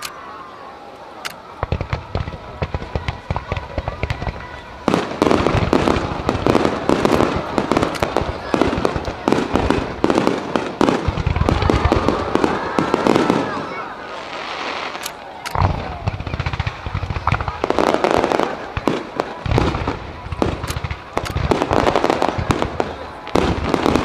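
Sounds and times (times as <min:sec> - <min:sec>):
fireworks launching and bursting: 0:01.2 - 0:24.0.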